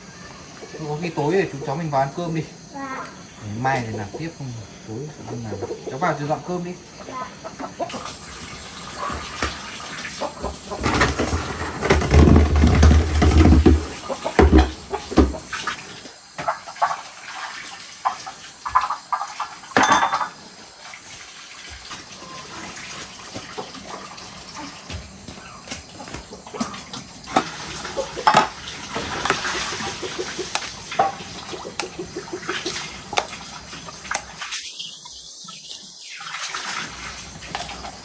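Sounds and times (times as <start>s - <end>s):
water running and splashing: 0.0s - 38.0s.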